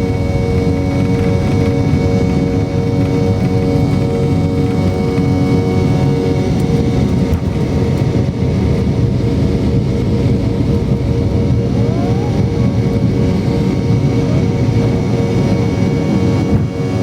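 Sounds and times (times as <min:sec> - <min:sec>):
aircraft cabin engine noise: 0:00.0 - 0:17.0.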